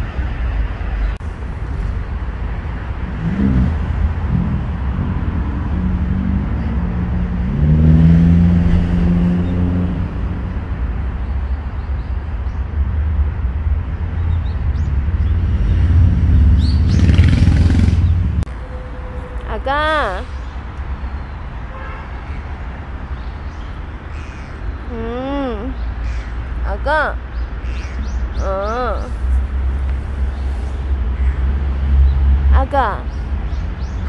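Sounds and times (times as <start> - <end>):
vehicle engine hum: 0.0 - 21.6, 22.3 - 34.0
road traffic rumble: 0.0 - 34.0.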